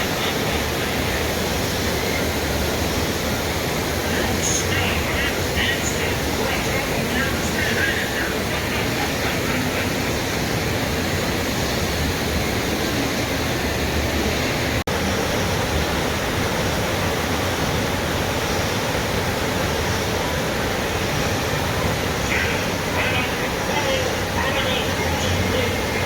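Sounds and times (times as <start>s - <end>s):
steady low rushing noise: 0.0s - 26.0s.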